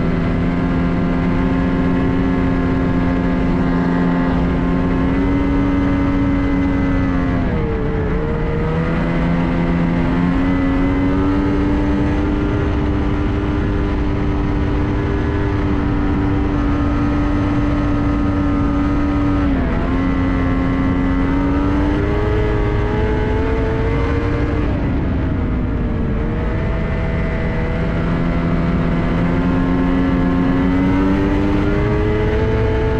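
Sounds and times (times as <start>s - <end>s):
snowmobile engine running: 0.0s - 32.9s
snowmobile track rushing: 0.0s - 32.9s.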